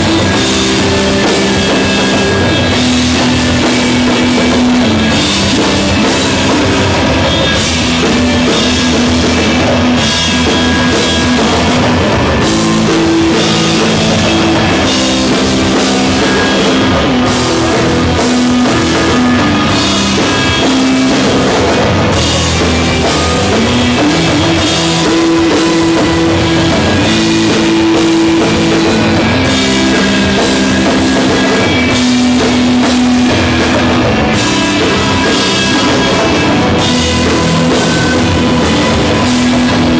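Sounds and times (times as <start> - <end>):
bass guitar: 0.0 - 39.9
drum kit with cymbals: 0.0 - 39.9
electric guitar: 0.0 - 39.9.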